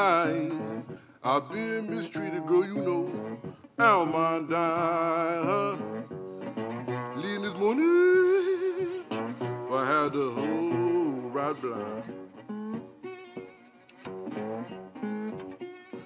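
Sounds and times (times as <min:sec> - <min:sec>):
resonator guitar blues with slides: 0:00.0 - 0:16.0.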